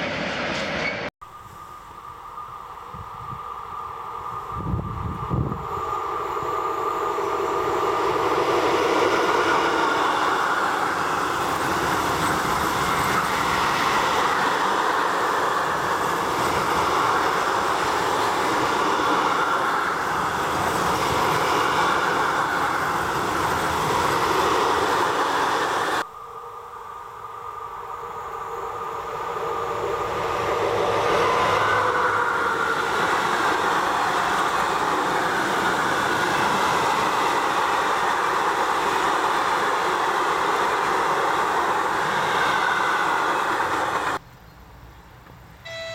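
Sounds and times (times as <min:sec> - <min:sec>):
freight train rolling on rails: 0:00.0 - 0:45.9.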